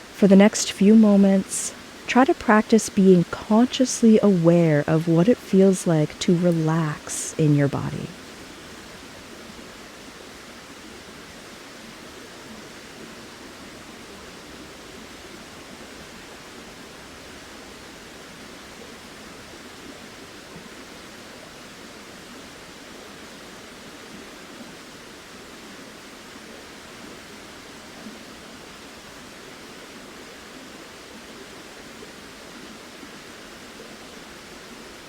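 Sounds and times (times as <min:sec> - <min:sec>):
rushing water: 0:00.0 - 0:35.0.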